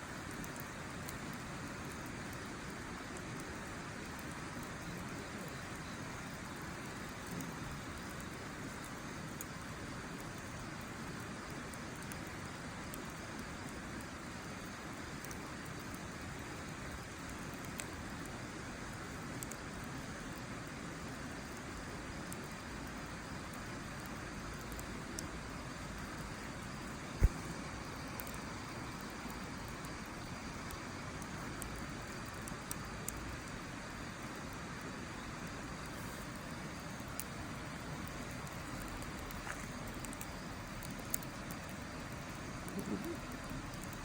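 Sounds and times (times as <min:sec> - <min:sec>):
fire crackling pops: 0:00.0 - 0:44.0.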